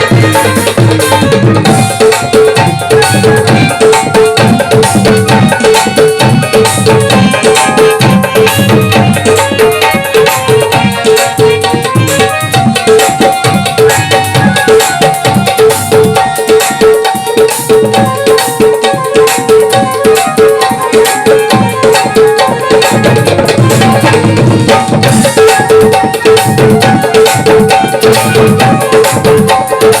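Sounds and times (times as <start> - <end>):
fast hand-drum rhythm: 0.0 - 30.0.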